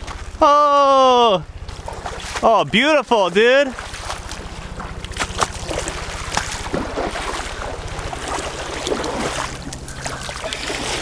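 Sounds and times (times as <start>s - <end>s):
feet splashing through water: 0.0s - 11.0s.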